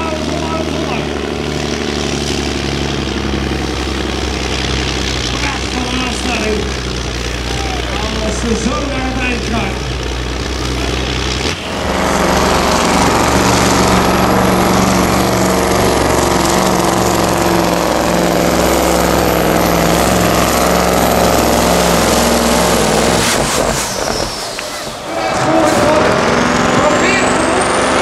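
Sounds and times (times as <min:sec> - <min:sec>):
diesel truck engine pulling: 0:00.0 - 0:28.0.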